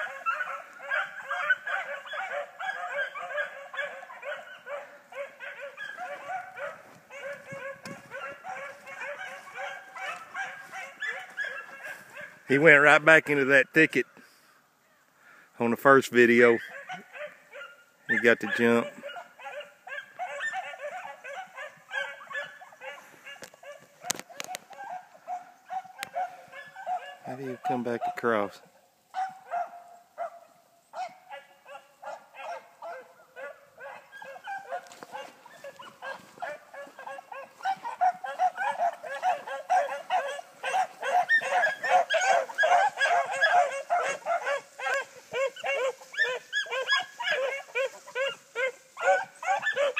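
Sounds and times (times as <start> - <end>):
hounds baying: 0.0 - 13.8, 16.2 - 49.9.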